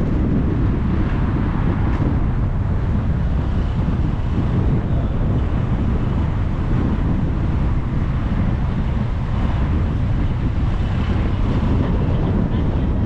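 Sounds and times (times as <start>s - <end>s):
tyre road rumble: 0.0s - 13.0s
wind noise: 0.0s - 13.0s.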